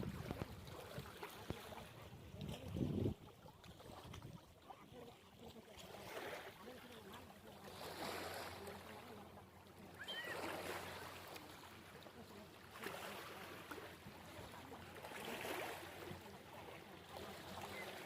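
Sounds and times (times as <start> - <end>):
small waves washing on shore: 0.0 - 18.0.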